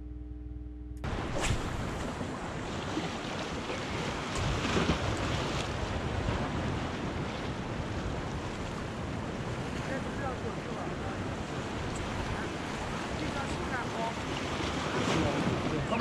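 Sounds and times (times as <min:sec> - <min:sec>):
wind buffeting microphone: 0:01.0 - 0:16.0
waves splashing against rocks: 0:01.1 - 0:16.0.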